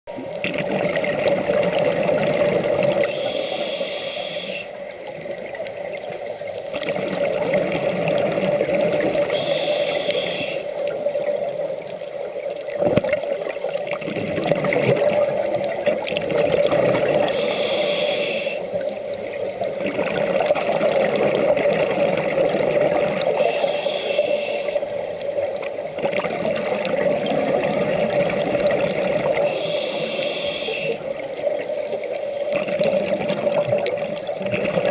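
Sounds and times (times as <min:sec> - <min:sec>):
steady hum: 0:00.1 - 0:12.8, 0:14.0 - 0:34.9
underwater breathing bubbles: 0:00.2 - 0:34.9.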